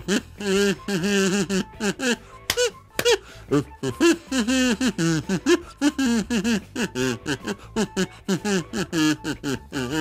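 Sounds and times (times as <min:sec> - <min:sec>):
man humming through a kazoo: 0:00.0 - 0:10.0.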